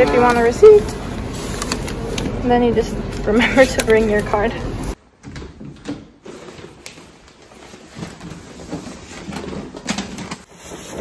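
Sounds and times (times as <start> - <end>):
shopping bags rustling: 0.0 - 5.0, 6.0 - 11.0.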